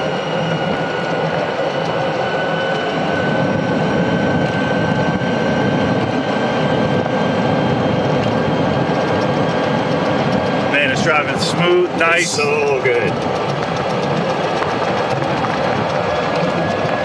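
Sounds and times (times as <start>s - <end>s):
golf cart drive whine: 0.0s - 17.0s
tyre and wind noise: 0.0s - 17.0s.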